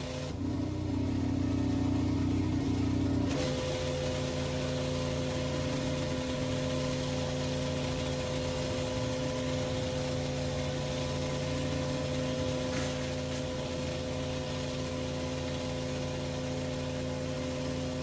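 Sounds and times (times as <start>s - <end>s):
high-pressure water spraying: 0.0s - 18.0s
pressure washer engine running: 0.0s - 18.0s.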